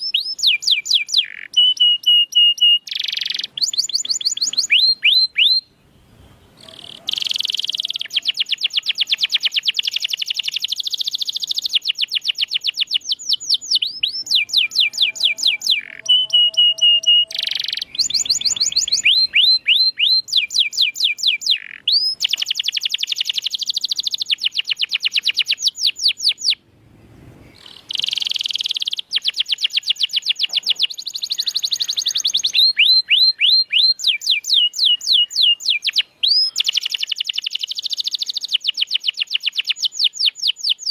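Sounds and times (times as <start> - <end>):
canary singing trilled rolls: 0.0 - 26.6, 27.4 - 40.9.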